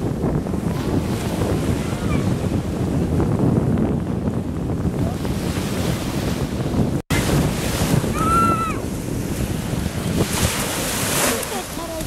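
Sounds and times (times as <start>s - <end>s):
sea waves washing ashore: 0.0s - 12.0s
wind buffeting microphone: 0.0s - 12.0s.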